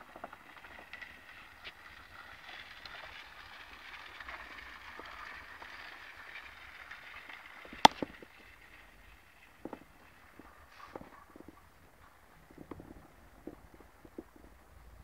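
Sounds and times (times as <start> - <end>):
bicycle tyres hissing on concrete: 0.0 - 15.0.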